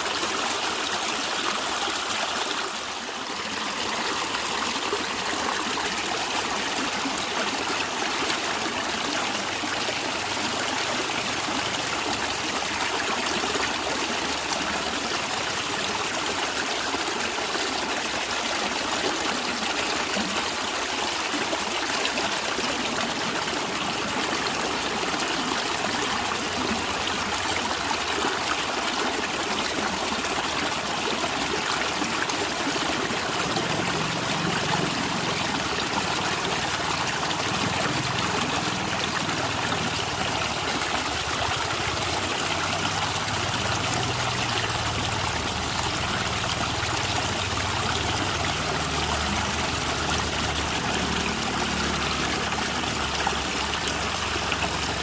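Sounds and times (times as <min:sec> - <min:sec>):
stream gurgling: 0:00.0 - 0:55.0.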